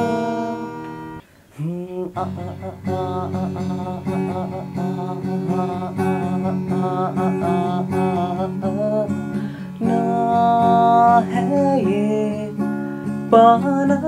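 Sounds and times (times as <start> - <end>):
man singing: 0.0 - 0.8, 1.5 - 14.0
acoustic guitar strumming chords: 0.0 - 14.0.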